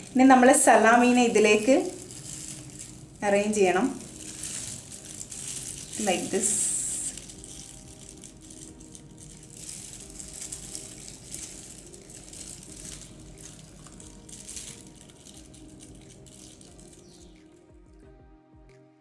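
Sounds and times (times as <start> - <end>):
plastic gloves rustling: 0.0 - 18.0
faint background music: 0.0 - 19.0.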